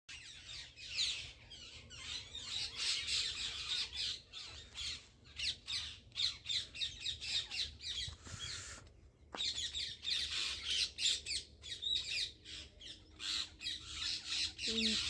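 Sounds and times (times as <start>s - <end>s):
birds chirping and calling: 0.1s - 15.0s.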